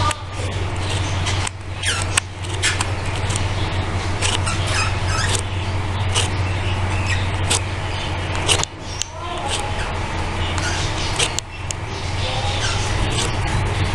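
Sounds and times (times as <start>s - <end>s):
budgerigars chirping: 0.0s - 13.9s
steady low hum: 0.0s - 13.9s.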